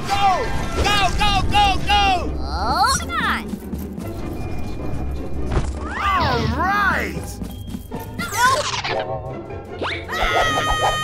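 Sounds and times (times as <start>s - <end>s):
cartoon background music: 0.1s - 11.0s.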